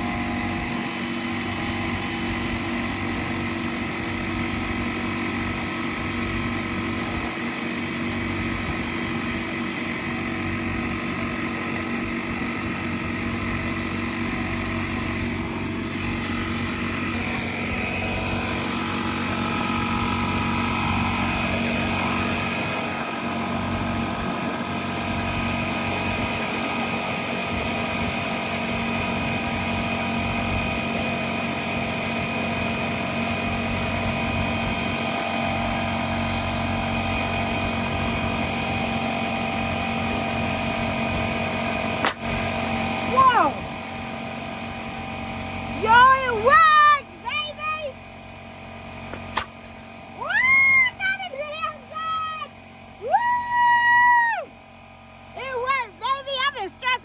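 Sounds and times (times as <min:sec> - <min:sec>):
air compressor running: 0:00.0 - 0:57.0.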